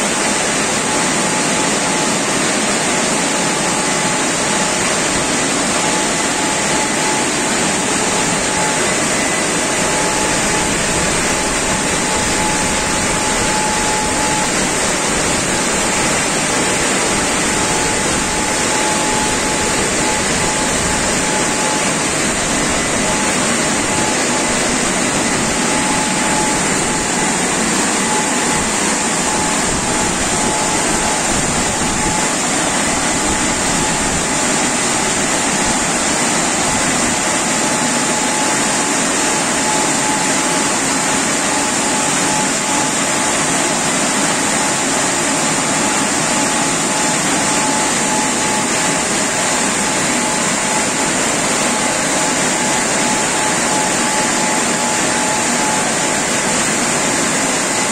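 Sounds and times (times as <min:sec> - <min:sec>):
thin steady whine: 0:00.0 - 0:57.9
car wash brushes and water spray: 0:00.1 - 0:57.9.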